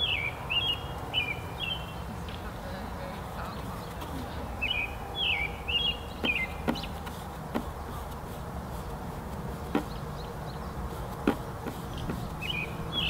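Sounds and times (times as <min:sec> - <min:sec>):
low outdoor rumble: 0:00.0 - 0:13.0
songbird chirping: 0:00.0 - 0:13.0.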